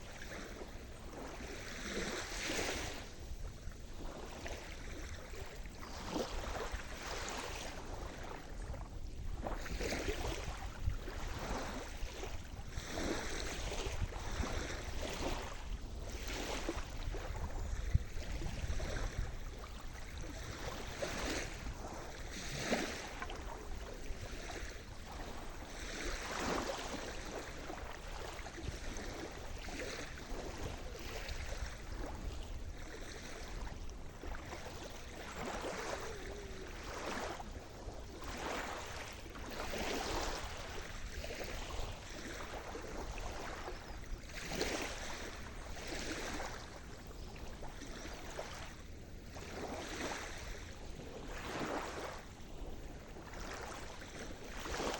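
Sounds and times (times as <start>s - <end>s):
small waves breaking on shore: 0.0s - 54.9s.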